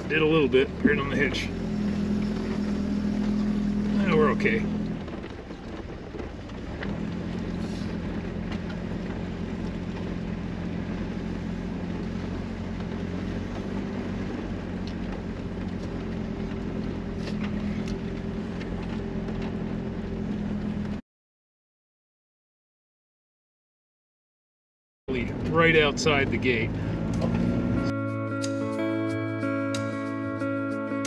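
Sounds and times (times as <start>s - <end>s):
motorhome engine running: 0.0s - 21.0s, 25.1s - 31.0s
road and rattle noise: 0.0s - 21.0s, 25.1s - 31.0s.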